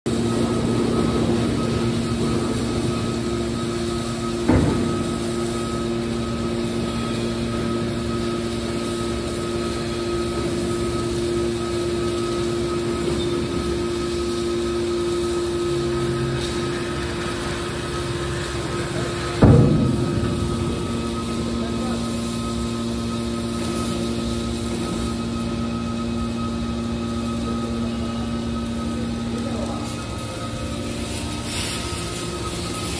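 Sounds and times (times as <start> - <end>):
metal baler humming: 0.1 - 32.9.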